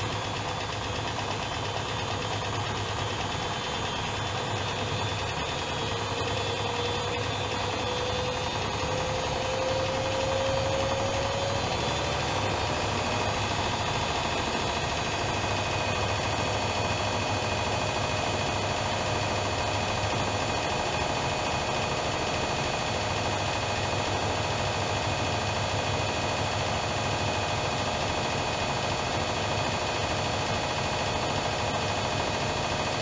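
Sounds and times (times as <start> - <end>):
washing machine motor whine: 0.0 - 33.0.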